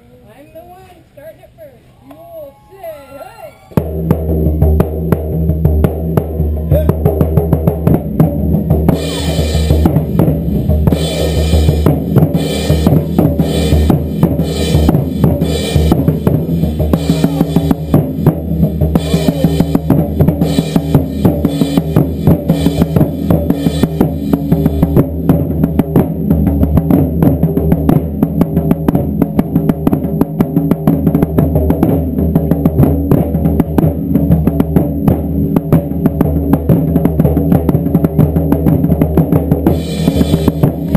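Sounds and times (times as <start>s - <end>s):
taiko drumming fast beat: 3.8s - 40.9s.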